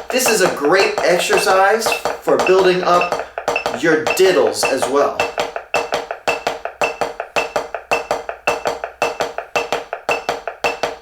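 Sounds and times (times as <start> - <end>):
drumsticks striking practice pad: 0.0 - 11.0
metronome beeping: 0.0 - 11.0.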